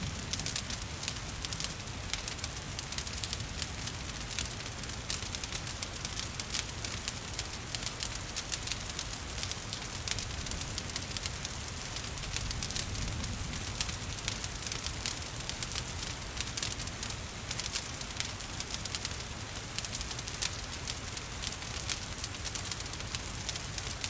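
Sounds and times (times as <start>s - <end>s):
gentle rain hissing: 0.0s - 24.0s
wood fire crackling and popping: 0.0s - 24.0s.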